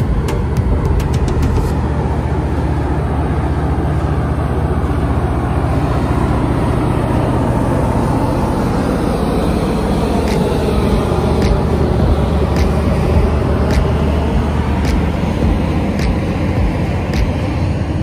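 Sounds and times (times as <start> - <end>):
diesel engine drone: 0.0 - 18.0.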